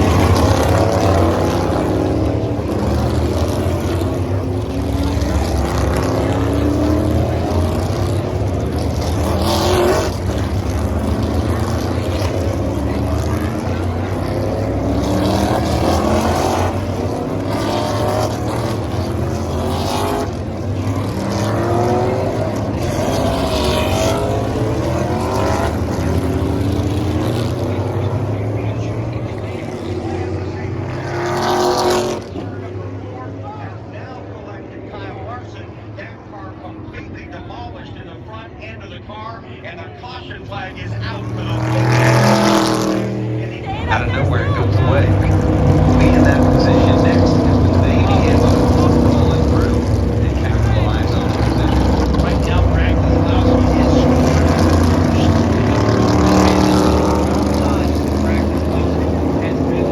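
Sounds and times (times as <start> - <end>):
race cars passing at full throttle: 0.0 - 59.9.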